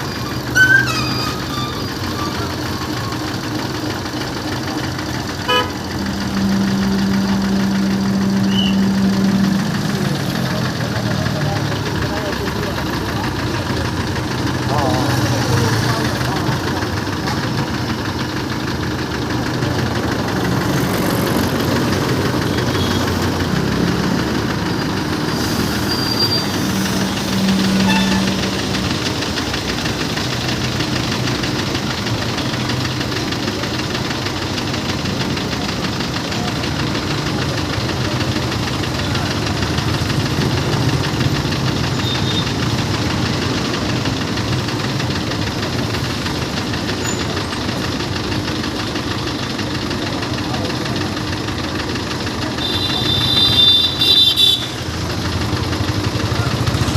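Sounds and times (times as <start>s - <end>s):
engine droning: 0.0s - 56.9s.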